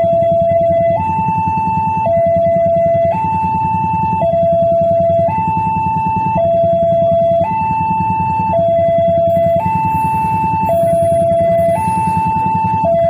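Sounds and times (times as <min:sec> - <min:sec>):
level crossing two-tone alarm: 0:00.0 - 0:13.0.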